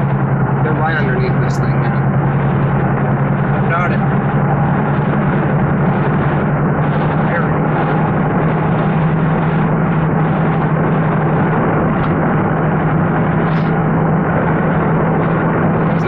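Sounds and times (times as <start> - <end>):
car engine and tyre drone: 0.0 - 16.0
low hum: 0.0 - 16.0.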